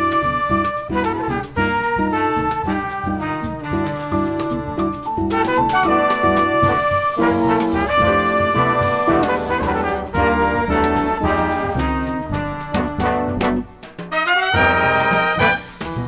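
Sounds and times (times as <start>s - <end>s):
jazz orchestra with brass: 0.0s - 16.0s.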